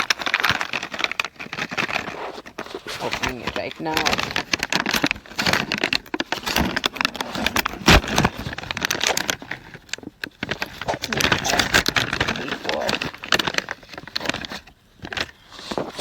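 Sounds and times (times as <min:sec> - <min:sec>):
plastic pouch crinkling: 0:00.0 - 0:16.0.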